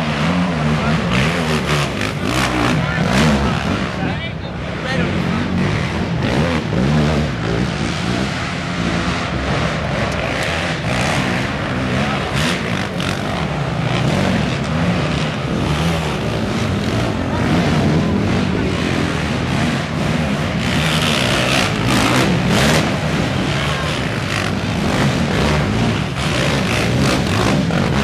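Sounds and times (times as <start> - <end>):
quad engines revving: 0.0 - 28.0.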